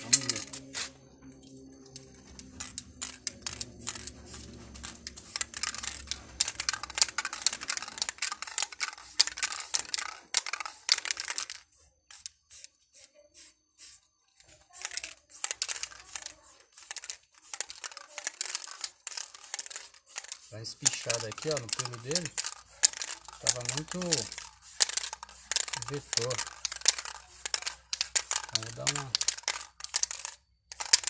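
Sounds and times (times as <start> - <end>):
spray paint can hissing: 1.9 - 31.0.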